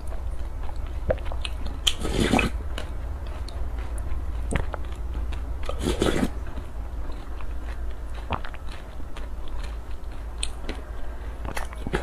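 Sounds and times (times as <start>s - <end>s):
mouth clicks: 0.0s - 12.0s
steady low hum: 0.0s - 12.0s
wet chewing: 0.0s - 12.0s.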